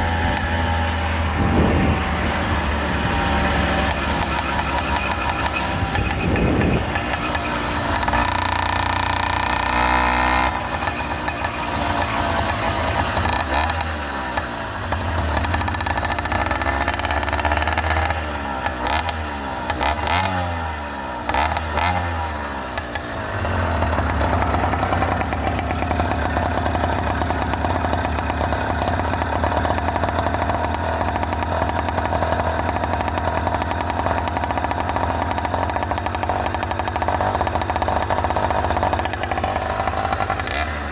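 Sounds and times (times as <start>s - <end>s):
motorized bicycle engine running: 0.0s - 40.9s.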